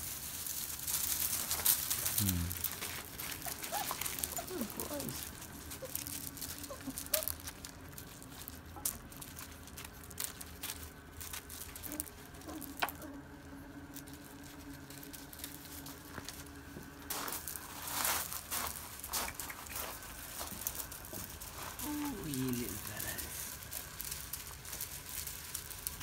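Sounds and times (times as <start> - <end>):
paws crunching on gravel: 0.0 - 26.0.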